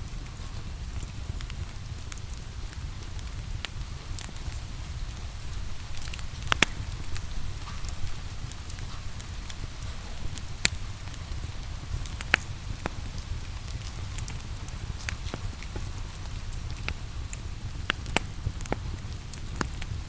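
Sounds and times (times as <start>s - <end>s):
rain falling: 0.0s - 20.0s
wood fire crackling: 0.0s - 20.0s
sharp pops from fire: 0.5s - 20.0s.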